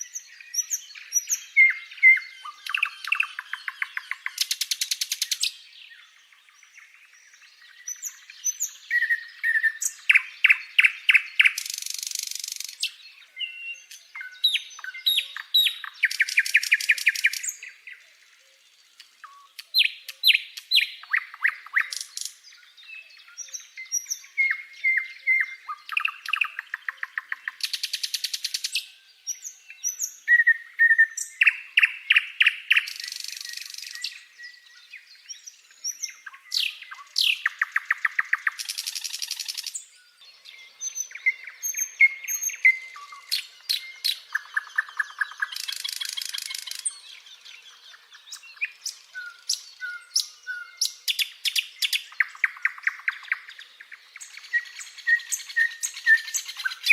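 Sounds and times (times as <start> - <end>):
birds chirping and trilling: 0.0 - 56.9.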